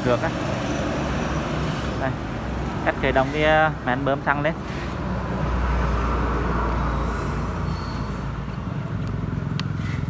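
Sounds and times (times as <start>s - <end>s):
heavy vehicle rumbling past: 0.0s - 10.0s
road traffic noise: 0.0s - 10.0s.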